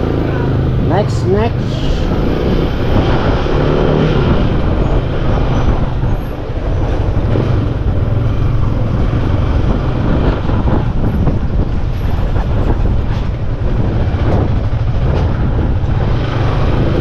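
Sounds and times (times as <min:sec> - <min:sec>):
motorcycle engine drone: 0:00.0 - 0:17.0
rush of noise: 0:00.0 - 0:17.0.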